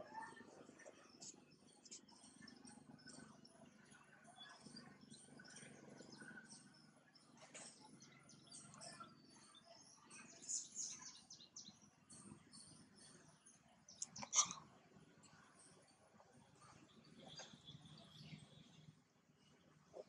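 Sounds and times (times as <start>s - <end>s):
low outdoor background: 0.0s - 20.0s.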